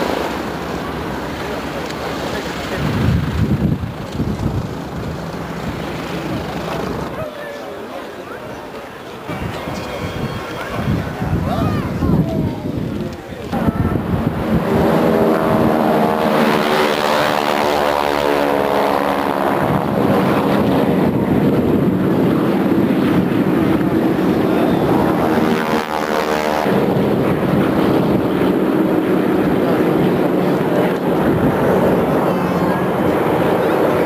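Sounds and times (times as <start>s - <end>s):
propeller aircraft flying past: 0.0s - 7.2s, 13.5s - 34.0s.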